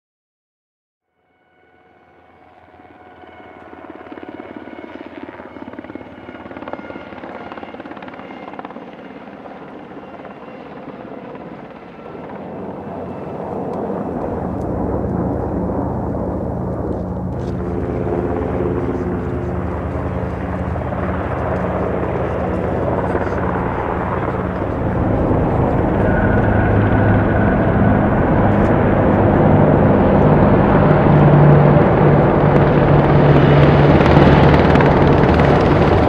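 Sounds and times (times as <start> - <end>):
helicopter engine whine: 1.4 - 36.0
helicopter rotor beat: 2.0 - 36.0.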